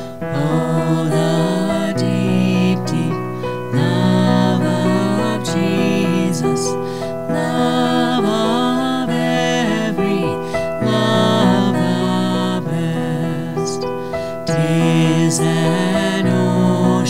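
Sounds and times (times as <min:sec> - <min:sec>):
song with piano and singing: 0:00.0 - 0:17.0.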